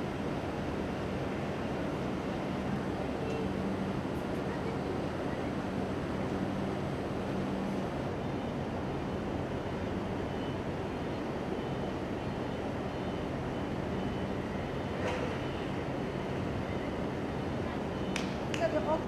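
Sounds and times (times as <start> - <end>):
mechanical hum and rumble: 0.0 - 19.0.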